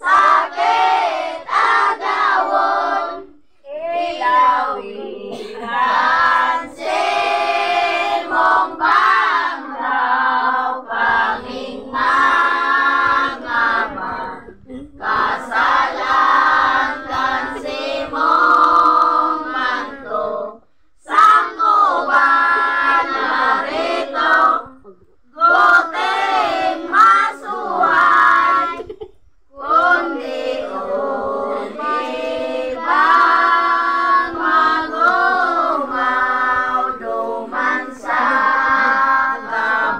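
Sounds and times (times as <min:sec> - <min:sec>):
children and women singing: 0:00.0 - 0:39.9.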